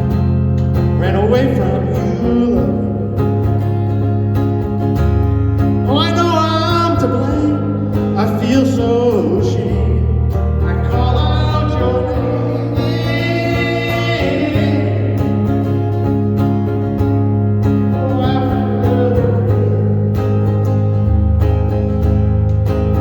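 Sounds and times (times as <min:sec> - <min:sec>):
live country music: 0:00.0 - 0:23.0.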